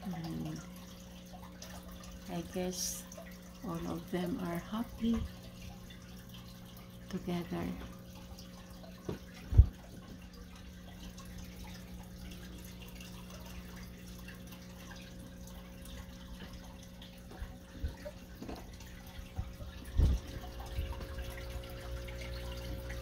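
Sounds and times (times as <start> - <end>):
steady low hum: 0.0 - 23.0
water trickling and dripping: 0.0 - 23.0.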